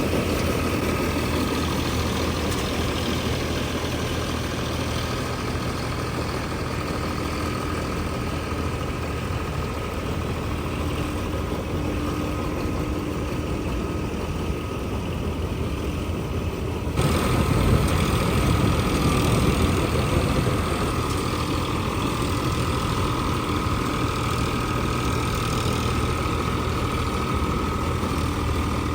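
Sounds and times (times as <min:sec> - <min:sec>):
combine harvester engine hum: 0:00.0 - 0:28.9.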